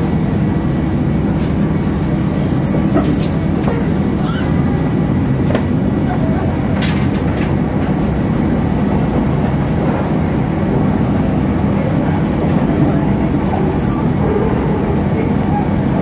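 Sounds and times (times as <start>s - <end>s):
train rumble inside coach: 0.0s - 16.0s.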